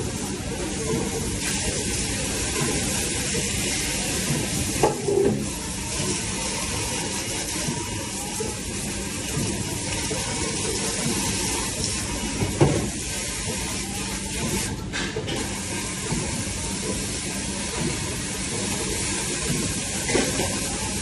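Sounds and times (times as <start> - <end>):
water spray hissing on steel: 0.0 - 21.0.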